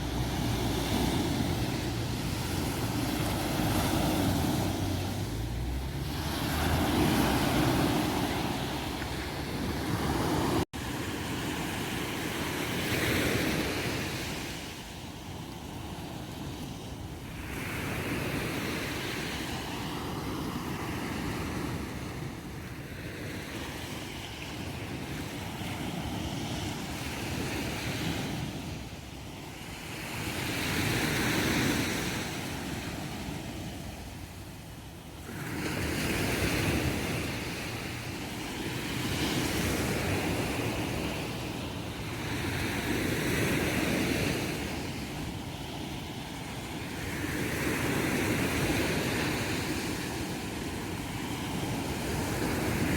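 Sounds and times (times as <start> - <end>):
small waves breaking on beach: 0.0 - 52.9.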